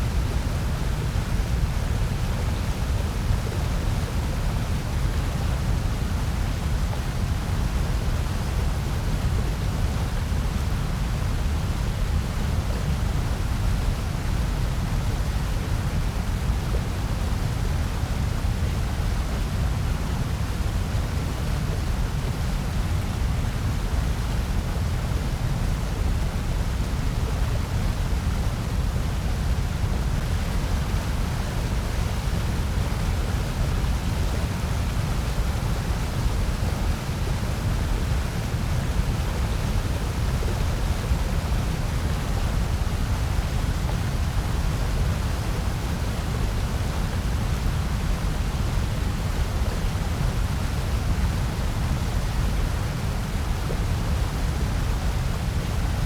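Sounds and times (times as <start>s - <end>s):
deep white noise: 0.0s - 56.0s.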